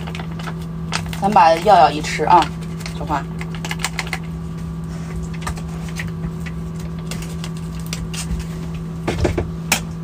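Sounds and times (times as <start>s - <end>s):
paper sachet crinkling and tapping: 0.0s - 8.9s
low mechanical hum: 0.0s - 10.0s.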